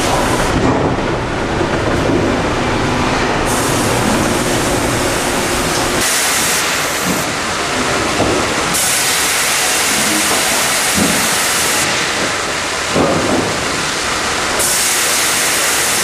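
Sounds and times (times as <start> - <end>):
sawmill machinery rumbling and clattering: 0.0 - 16.0.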